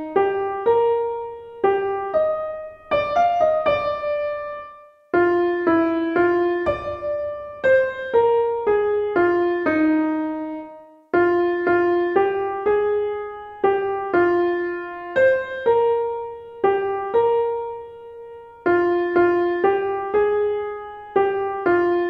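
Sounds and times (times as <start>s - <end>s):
slow piano melody: 0.0s - 22.0s.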